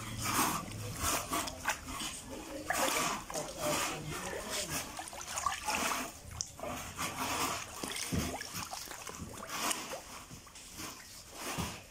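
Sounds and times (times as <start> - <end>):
water sloshing in a plastic tub: 0.0 - 11.9.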